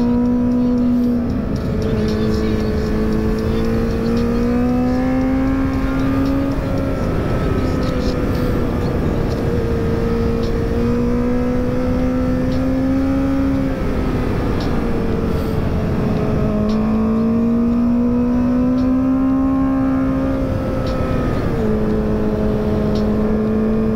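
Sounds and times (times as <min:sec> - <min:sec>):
motorcycle engine pulling: 0:00.0 - 0:23.9
wind and road noise: 0:00.0 - 0:23.9.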